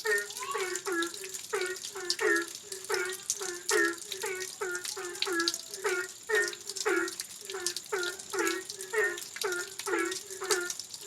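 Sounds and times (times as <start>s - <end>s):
animal croaking: 0.0s - 10.8s
steady rain: 0.0s - 11.0s.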